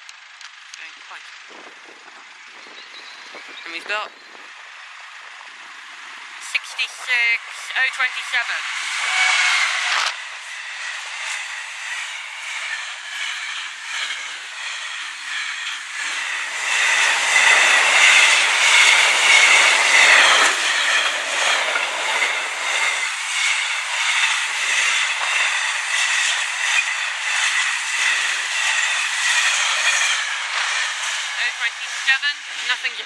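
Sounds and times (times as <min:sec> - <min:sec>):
train wheels clattering on track: 0:04.8 - 0:33.0.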